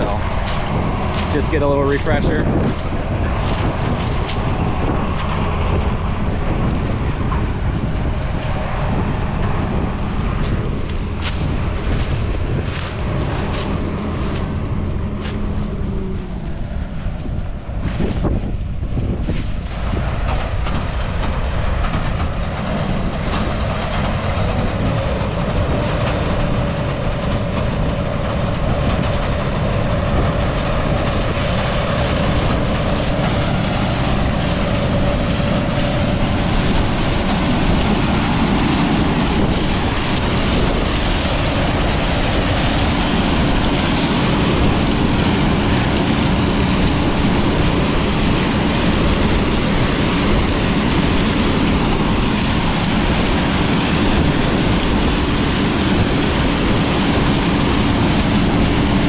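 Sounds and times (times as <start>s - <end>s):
combine harvester mechanical drone: 0.0s - 59.0s.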